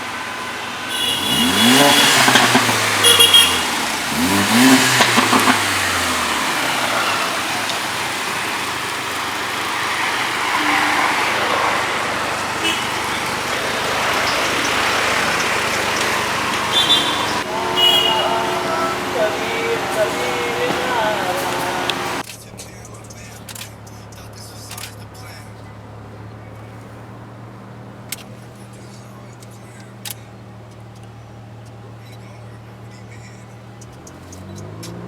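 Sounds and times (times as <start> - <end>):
car driving drone: 0.0 - 35.0
car engine revving: 0.0 - 35.0
exhaust crackles: 0.0 - 35.0.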